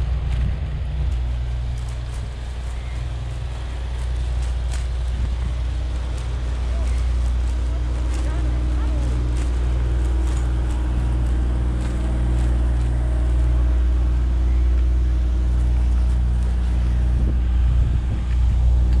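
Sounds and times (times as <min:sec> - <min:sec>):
loud low motor hum: 0:00.0 - 0:19.0
wind gusting on microphone: 0:00.0 - 0:19.0.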